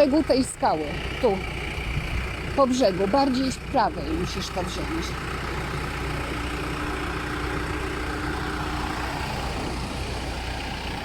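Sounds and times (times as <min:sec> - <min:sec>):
off-road vehicle engine at low revs: 0:00.0 - 0:11.0.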